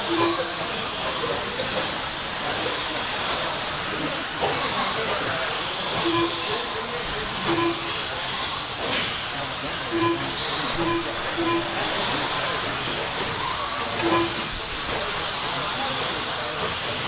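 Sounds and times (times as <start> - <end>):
high-pitched motor whines: 0.0 - 17.0
rc truck motors and tyres hissing: 0.0 - 17.0.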